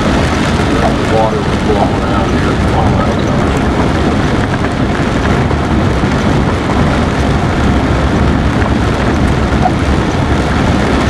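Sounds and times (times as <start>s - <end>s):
hiss of water and rain: 0.0s - 11.0s
vehicle engine and tyre noise: 0.0s - 11.0s.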